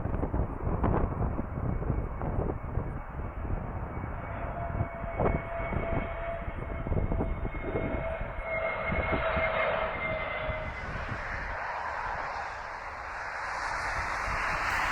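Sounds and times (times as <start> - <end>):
jet engines whining: 0.0 - 14.9
wind buffeting microphone: 0.0 - 14.9.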